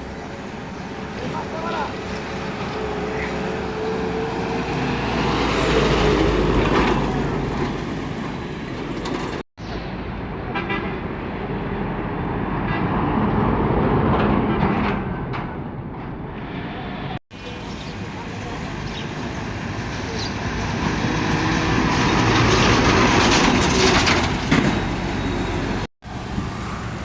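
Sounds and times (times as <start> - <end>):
trucks driving past: 0.0 - 27.0.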